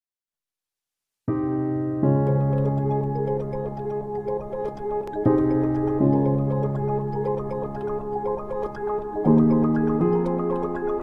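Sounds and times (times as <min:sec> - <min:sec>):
held piano chord: 0:01.3 - 0:11.0.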